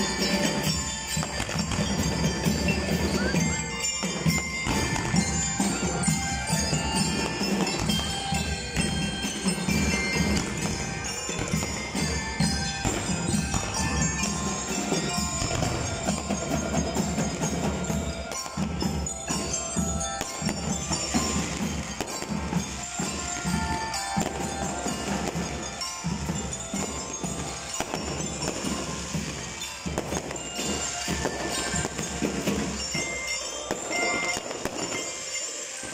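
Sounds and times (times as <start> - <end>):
bell lyres ringing a melody: 0.0 - 35.9
drum and lyre band playing: 0.0 - 35.9
drums: 0.0 - 35.9.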